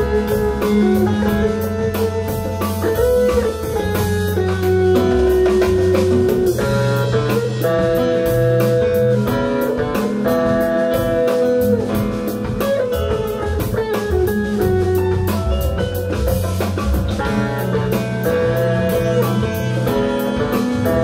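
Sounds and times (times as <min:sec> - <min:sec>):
bass guitar: 0:00.0 - 0:21.0
drum kit with cymbal beat: 0:00.0 - 0:21.0
electric guitar: 0:00.0 - 0:21.0.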